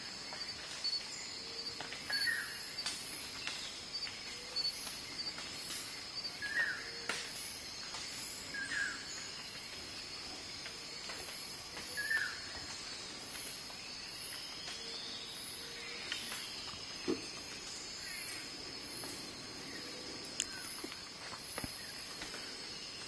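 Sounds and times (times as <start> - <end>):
high insect drone: 0.0 - 23.0
pulsing insect trill: 0.0 - 23.0.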